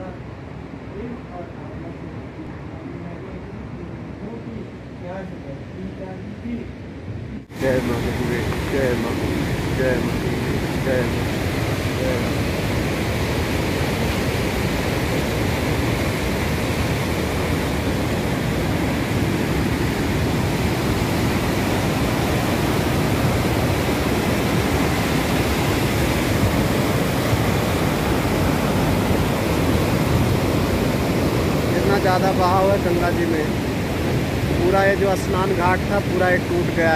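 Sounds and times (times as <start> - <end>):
river rushing in flood: 0.0 - 36.9.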